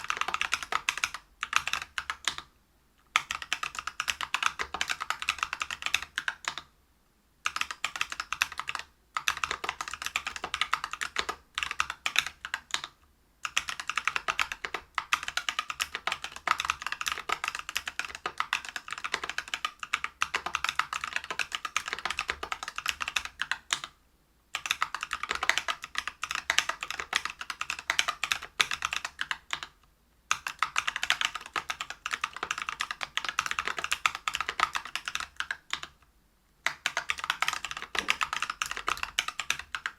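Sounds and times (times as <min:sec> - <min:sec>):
typing on mechanical keyboard: 0:00.0 - 0:02.5, 0:03.2 - 0:06.7, 0:07.4 - 0:36.0, 0:36.6 - 0:39.9.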